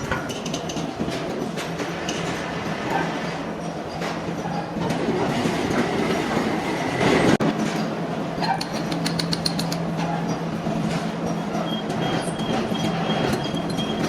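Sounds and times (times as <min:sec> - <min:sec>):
machinery humming and rumbling: 0:00.0 - 0:14.0.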